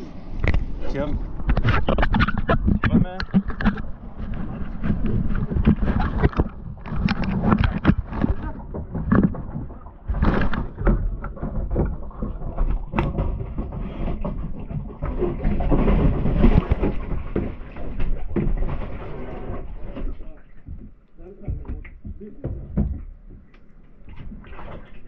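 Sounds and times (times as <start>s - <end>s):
paddle splashes and knocks: 0.4s - 25.0s.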